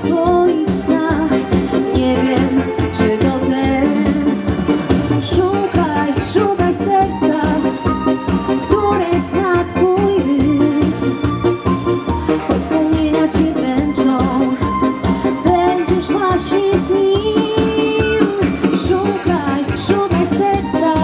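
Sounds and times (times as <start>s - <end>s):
electronic keyboard with beat: 0.0s - 21.0s
woman singing pop song: 0.0s - 21.0s.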